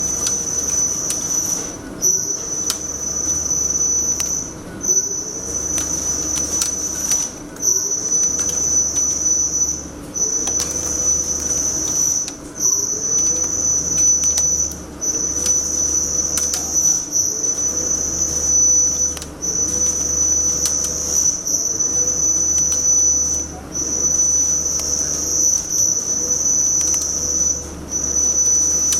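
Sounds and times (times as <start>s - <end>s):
lathe cutting whine: 0.0s - 28.9s.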